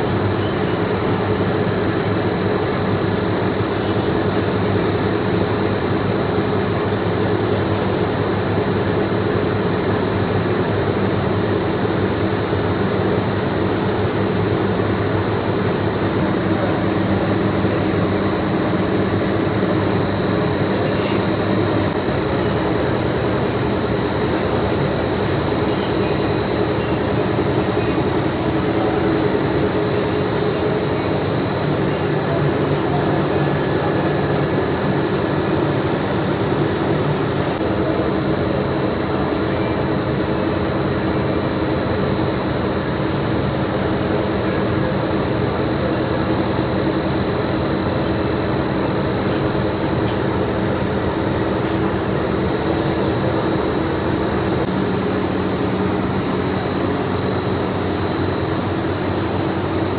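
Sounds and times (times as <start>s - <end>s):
factory machinery high whine: 0.0s - 59.9s
machinery low hum: 0.0s - 59.9s.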